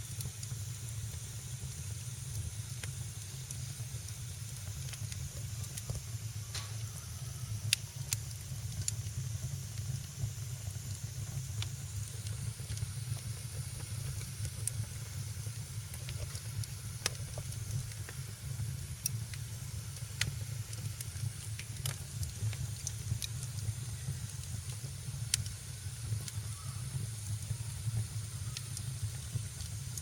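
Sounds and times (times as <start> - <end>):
low fire rumble: 0.0 - 30.0
soft hiss: 0.0 - 30.0
wood fire crackling and popping: 0.0 - 30.0.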